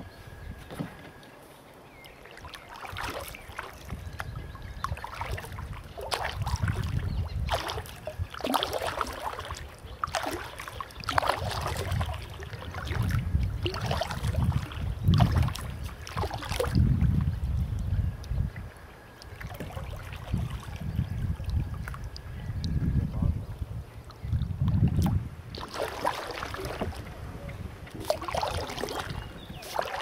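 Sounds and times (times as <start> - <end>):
wind rumble on microphone: 0.0 - 1.2, 2.6 - 30.0
paddle splashing in water: 2.0 - 17.3, 18.4 - 22.2, 24.8 - 30.0.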